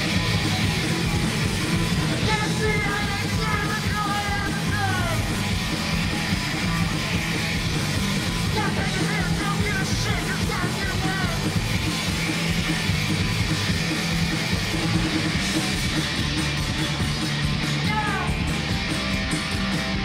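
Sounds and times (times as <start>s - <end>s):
punk rock band playing: 0.0s - 20.0s.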